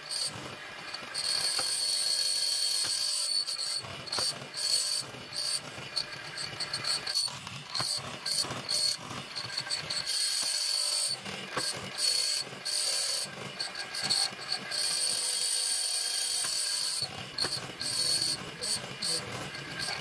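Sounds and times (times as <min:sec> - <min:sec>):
mortising machine cutting wood: 0:00.0 - 0:20.0
knocks of chisel cutting: 0:00.9 - 0:05.6, 0:06.4 - 0:20.0.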